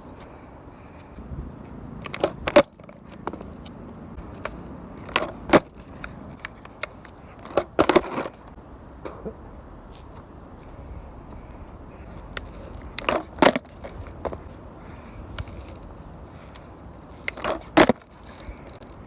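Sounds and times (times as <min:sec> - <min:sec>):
skateboard wheels rolling on pavement: 0:00.0 - 0:19.0
skateboard clacking on ground: 0:01.0 - 0:10.3, 0:11.3 - 0:19.0.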